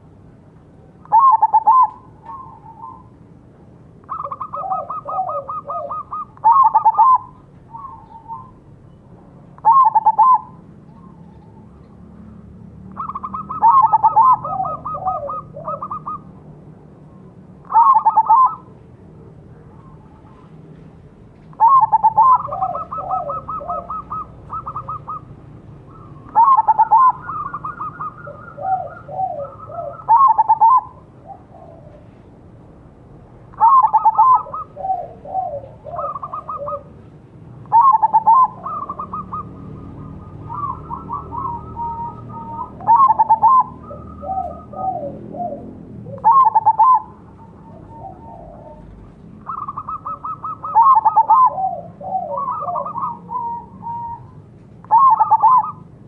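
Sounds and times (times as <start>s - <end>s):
doves cooing: 1.0s - 3.3s, 4.0s - 8.8s, 9.6s - 12.0s, 12.9s - 16.4s, 17.6s - 18.8s, 21.5s - 32.3s, 33.5s - 37.0s, 37.6s - 56.0s.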